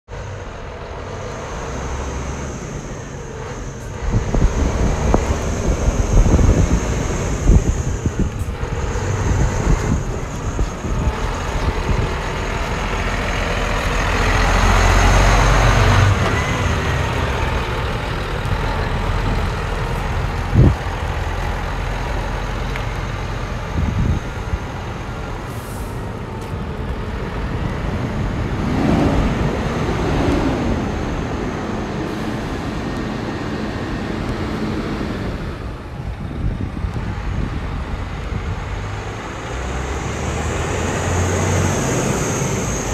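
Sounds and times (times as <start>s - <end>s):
truck diesel engine running: 0.1s - 42.9s.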